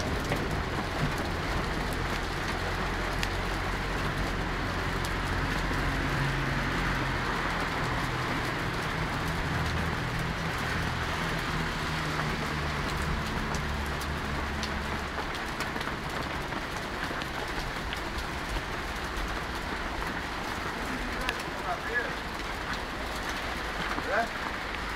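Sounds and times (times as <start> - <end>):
hail hissing: 0.0 - 24.9
hailstones ticking on hard surfaces: 0.0 - 24.9.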